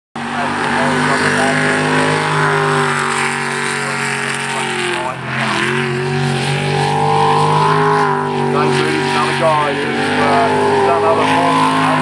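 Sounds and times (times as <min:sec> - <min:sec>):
jet boat engine running hard: 0:00.2 - 0:12.0.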